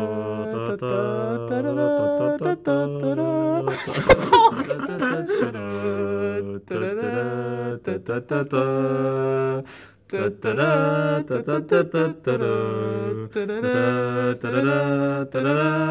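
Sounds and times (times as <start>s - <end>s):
person singing wordlessly: 0.0s - 15.9s.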